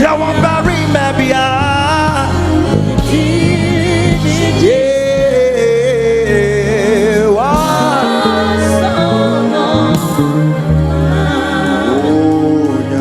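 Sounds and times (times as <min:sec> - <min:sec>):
band with steady bass: 0:00.0 - 0:13.0.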